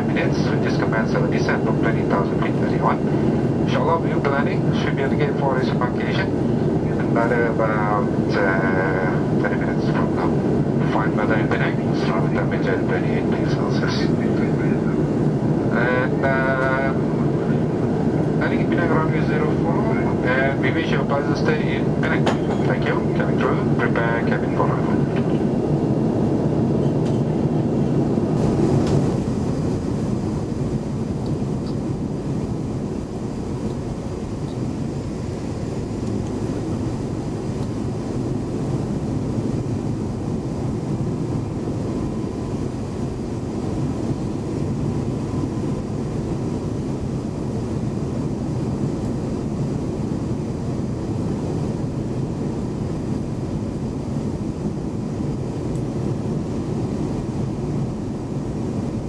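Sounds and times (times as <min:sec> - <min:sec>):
airplane cabin engine roar: 0:00.0 - 0:59.0.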